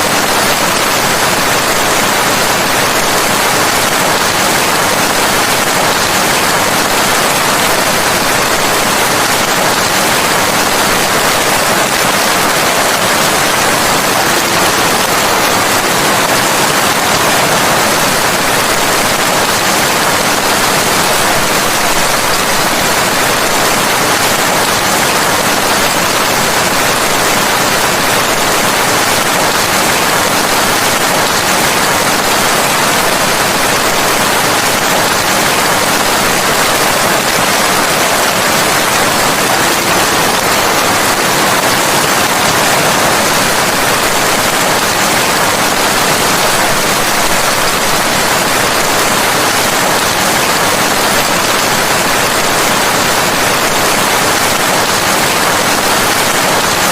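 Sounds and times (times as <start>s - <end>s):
dense rainfall hiss: 0.0s - 56.9s.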